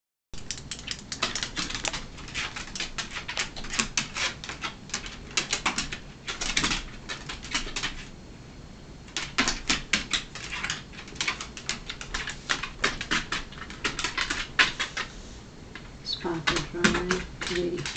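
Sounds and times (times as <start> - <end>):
claws clicking and scuffling: 0.4 - 8.1, 9.1 - 15.1, 15.8 - 17.9.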